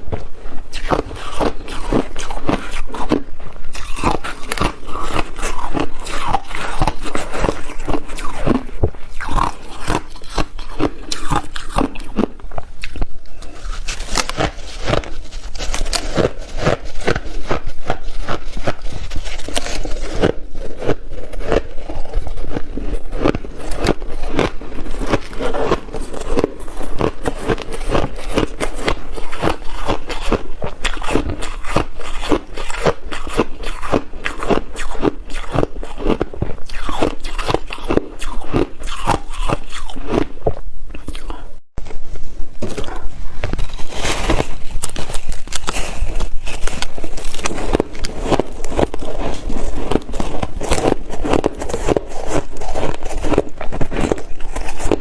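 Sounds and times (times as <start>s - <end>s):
person crunching ice: 0.0s - 55.0s.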